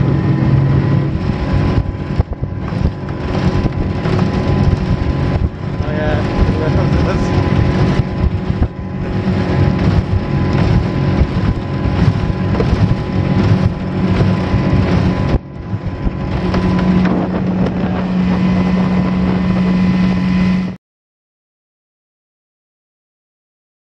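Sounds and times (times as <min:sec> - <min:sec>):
outboard motor drone: 0:00.0 - 0:20.8
water rushing along hull: 0:00.0 - 0:20.8
wind buffeting microphone: 0:00.0 - 0:20.8.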